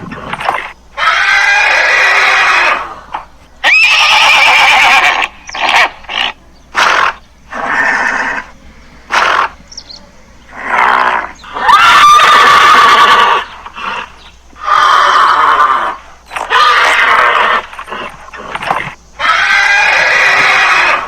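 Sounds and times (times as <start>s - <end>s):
horse neighing: 0.0s - 9.8s, 10.5s - 21.0s.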